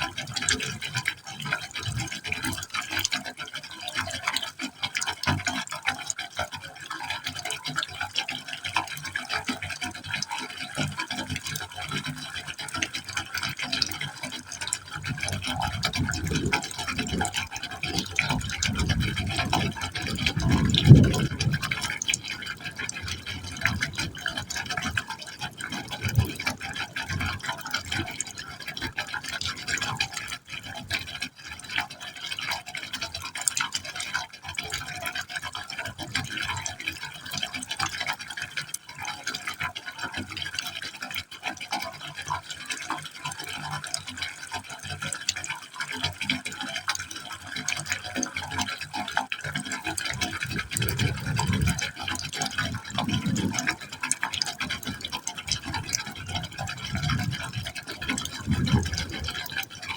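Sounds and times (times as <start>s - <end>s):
water splashing and gurgling in pipe: 0.0s - 59.9s.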